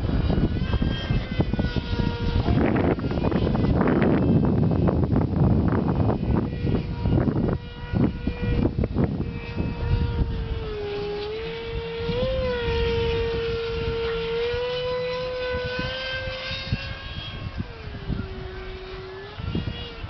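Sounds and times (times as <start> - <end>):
model jet electric fan whine: 0.0 - 20.0
wind rumbling on microphone: 0.0 - 20.0.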